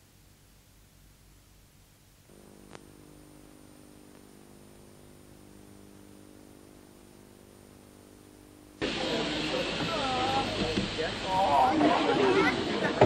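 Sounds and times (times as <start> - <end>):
electrical hum: 0.0 - 13.0
thin high whine: 2.0 - 13.0.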